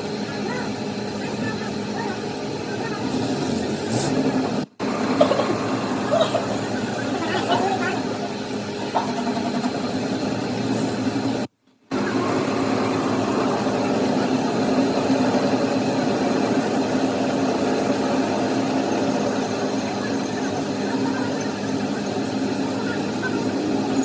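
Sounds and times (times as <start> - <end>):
machine running steadily: 0.0 - 24.0.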